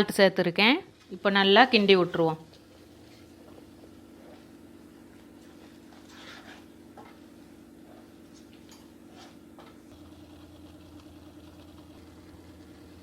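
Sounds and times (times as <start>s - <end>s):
steady low hum: 0.4s - 13.0s.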